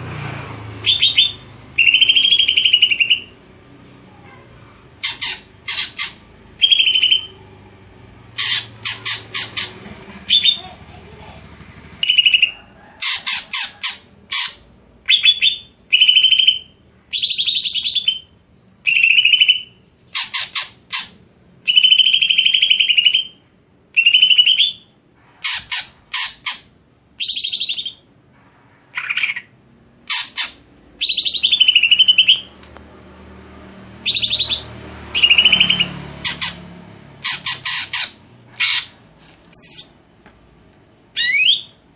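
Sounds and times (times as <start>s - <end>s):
bird singing: 0.8s - 4.1s, 5.0s - 10.9s, 12.0s - 32.6s, 33.9s - 41.9s.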